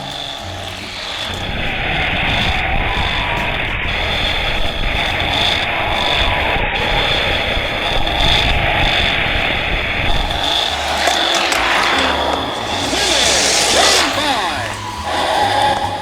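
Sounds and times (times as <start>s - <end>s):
loud engine noise: 0.0s - 16.0s.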